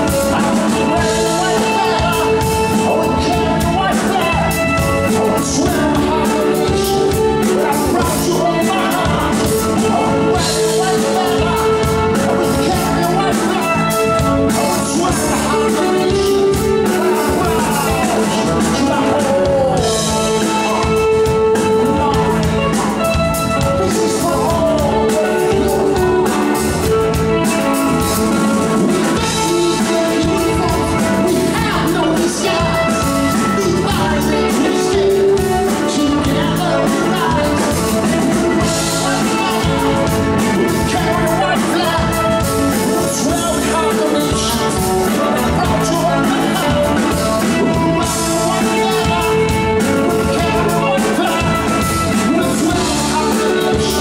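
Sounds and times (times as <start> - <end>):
live rock band playing: 0.0 - 54.0
man singing: 0.0 - 54.0.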